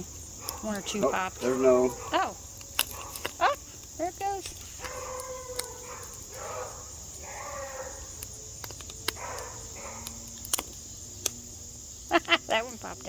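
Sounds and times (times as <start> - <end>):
popcorn kernels popping: 0.0 - 11.4
crickets trilling: 0.0 - 13.0.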